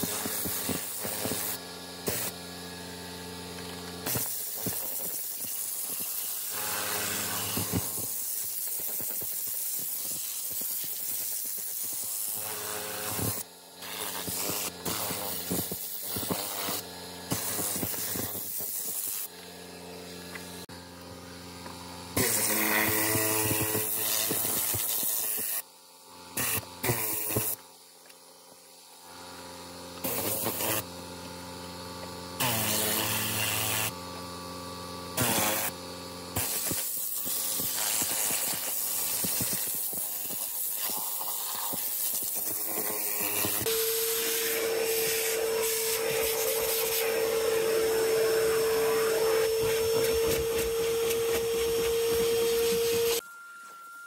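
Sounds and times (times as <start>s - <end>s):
compressed air hissing: 0.0s - 2.6s, 4.0s - 20.7s, 22.2s - 25.6s, 26.4s - 27.6s, 29.2s - 30.9s, 35.2s - 53.2s
steady motor hum: 0.0s - 53.2s.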